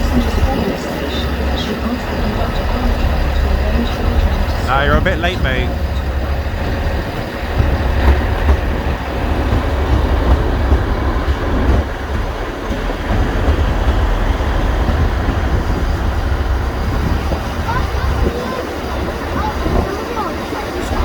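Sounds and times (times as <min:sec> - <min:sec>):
train rumbling along track: 0:00.0 - 0:21.0.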